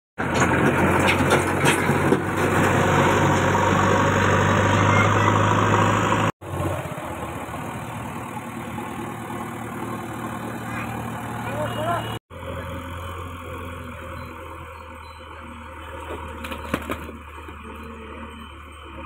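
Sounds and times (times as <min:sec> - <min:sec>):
diesel engine running: 0:00.2 - 0:19.0.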